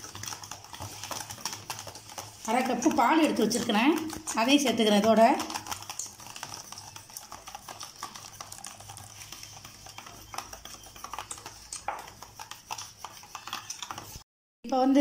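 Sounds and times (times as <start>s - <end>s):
whisk clicking against bowl: 0.0s - 14.2s.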